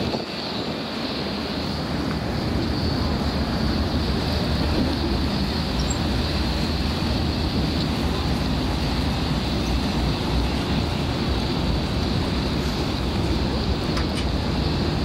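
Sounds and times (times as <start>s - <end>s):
boat engines rumbling: 0.0s - 15.0s
water washing: 0.0s - 15.0s
wind: 0.0s - 15.0s.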